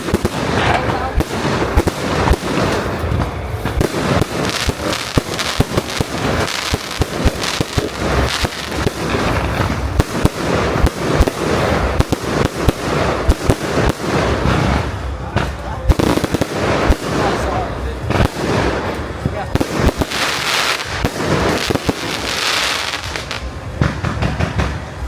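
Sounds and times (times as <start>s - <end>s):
crackling hiss: 0.0s - 25.0s
fireworks bangs: 0.0s - 25.0s.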